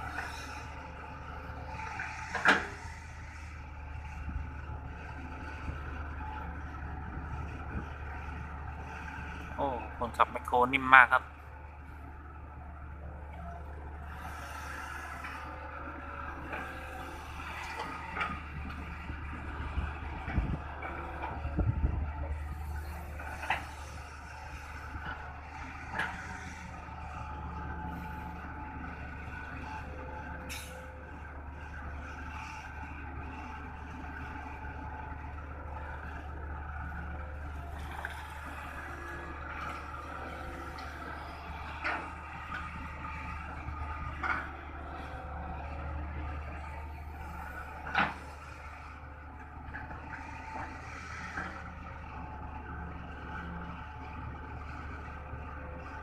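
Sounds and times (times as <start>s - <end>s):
excavator engine running: 0.0s - 56.0s.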